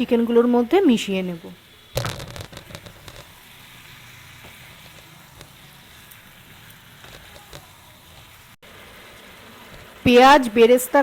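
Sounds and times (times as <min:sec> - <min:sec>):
chicken sizzling in oil: 0:01.6 - 0:11.0.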